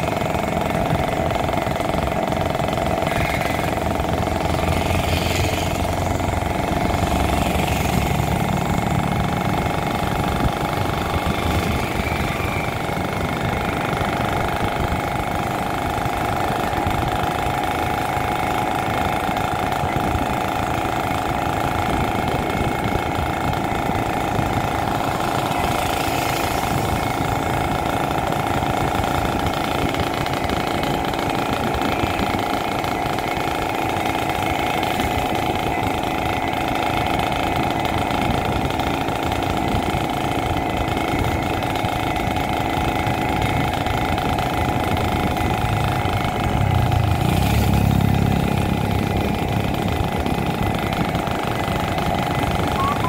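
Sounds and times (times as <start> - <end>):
motorcycle engine cruising: 0.0 - 53.0
road and wind noise: 0.0 - 53.0.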